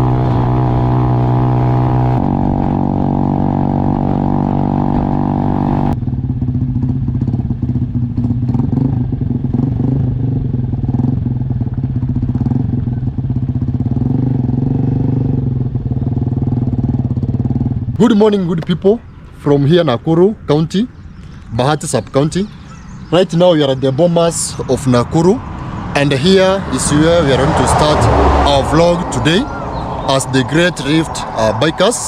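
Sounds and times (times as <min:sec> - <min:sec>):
motorcycle engine running: 0:00.0 - 0:31.8
wind and road noise: 0:00.0 - 0:32.0.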